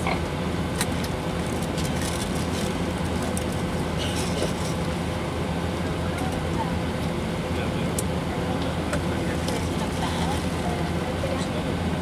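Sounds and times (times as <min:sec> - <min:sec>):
jet engines humming at low thrust: 0:00.0 - 0:12.0.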